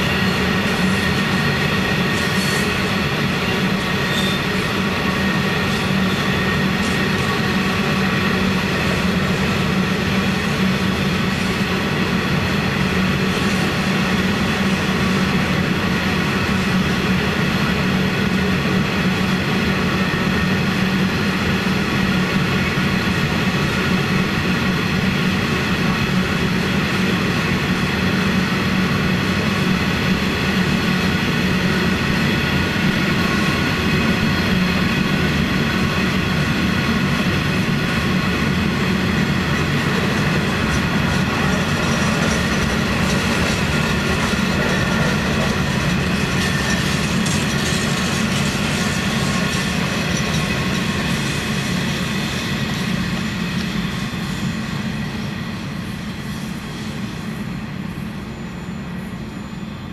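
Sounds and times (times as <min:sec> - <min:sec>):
high ringing whine: 0:00.0 - 0:59.9
train wheels rumbling on rail: 0:00.0 - 0:59.9.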